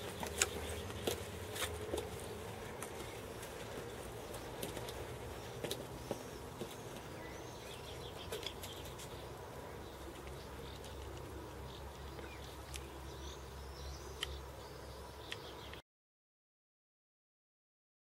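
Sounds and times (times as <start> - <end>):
small birds chirping: 0.0 - 15.8.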